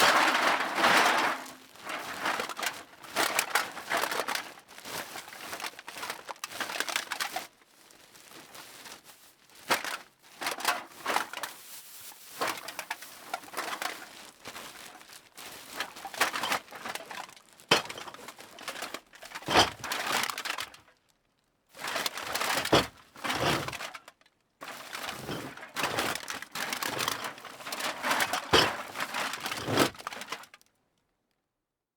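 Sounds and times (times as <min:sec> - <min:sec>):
bag rustling and crinkling: 0:00.0 - 0:20.8, 0:21.8 - 0:30.6.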